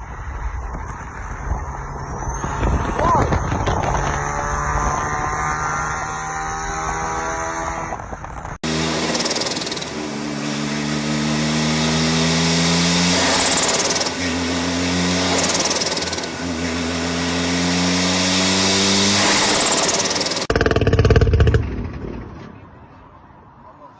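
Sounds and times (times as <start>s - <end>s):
rotary engine exhaust revving: 0.6s - 22.4s.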